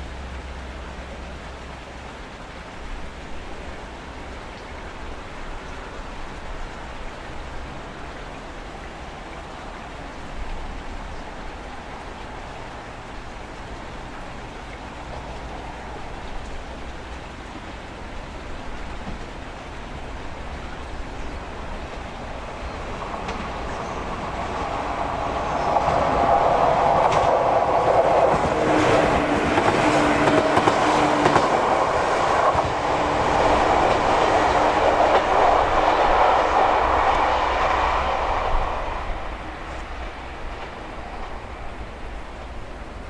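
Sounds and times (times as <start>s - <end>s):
electric train passing: 3.4s - 43.0s.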